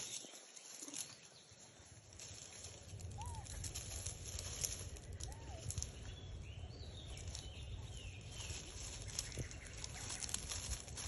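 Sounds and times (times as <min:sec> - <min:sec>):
crackles: 0:00.0 - 0:11.0.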